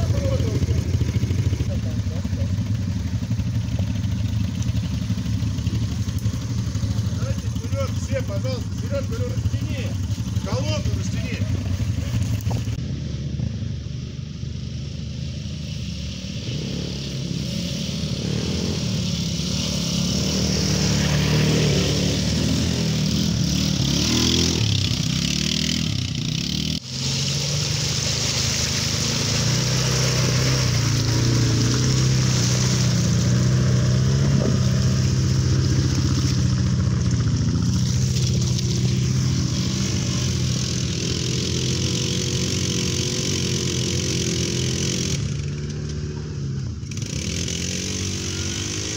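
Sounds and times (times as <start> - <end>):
small atv engines revving: 0.0 - 48.9.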